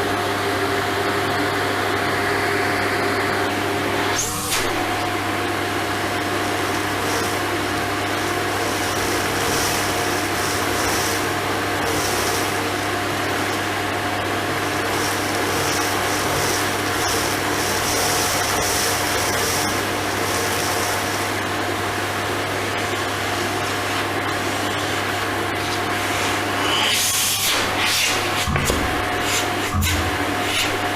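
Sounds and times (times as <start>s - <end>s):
vacuum cleaner whine: 0.0s - 30.9s.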